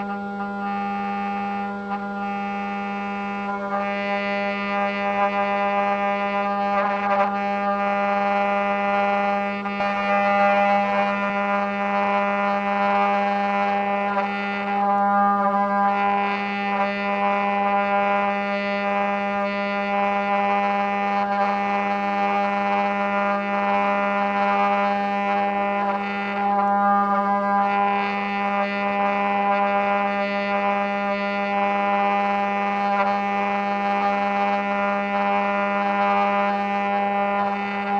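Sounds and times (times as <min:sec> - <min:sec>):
router cutting wood: 0:00.0 - 0:31.1
router motor whine: 0:00.0 - 0:37.9.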